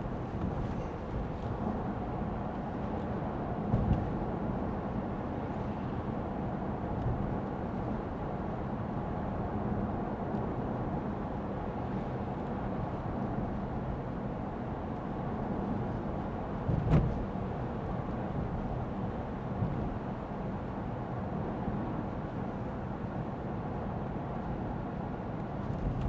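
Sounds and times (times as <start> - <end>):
car cabin road and engine hum: 0.0 - 26.0.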